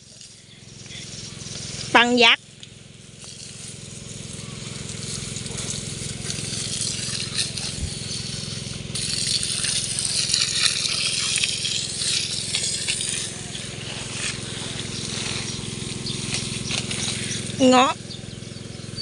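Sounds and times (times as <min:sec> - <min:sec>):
water spraying onto soil and leaves: 0:00.0 - 0:18.7
steady low hum: 0:00.0 - 0:19.0.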